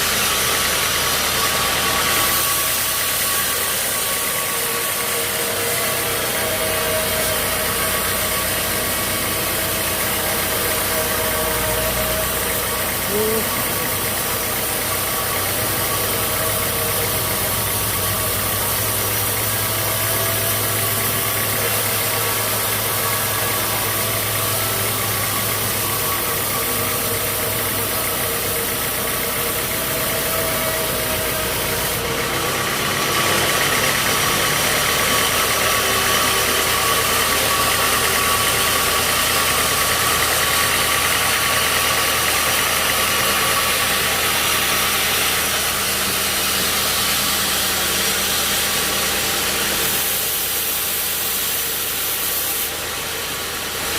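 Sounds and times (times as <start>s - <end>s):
bright machine noise: 0.0s - 53.9s
sawmill motor hum: 0.0s - 53.9s.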